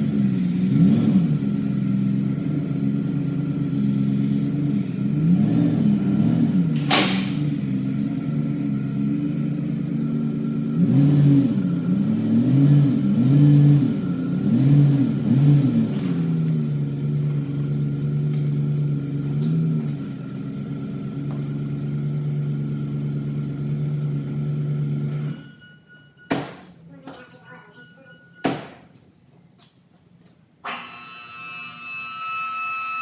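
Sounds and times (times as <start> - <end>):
truck engine idling and revving: 0.0 - 33.0.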